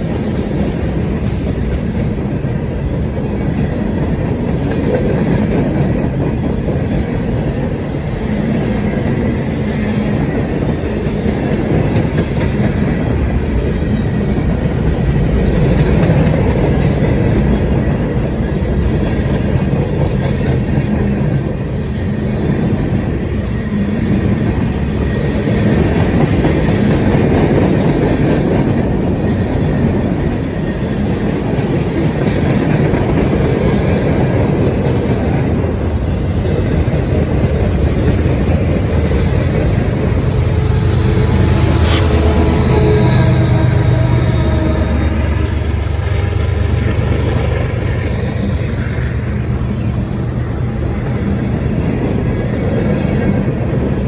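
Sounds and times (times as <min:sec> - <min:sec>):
clickety-clack of rail joints: 0:00.0 - 0:54.0
train wheels rumbling on rails: 0:00.0 - 0:54.0.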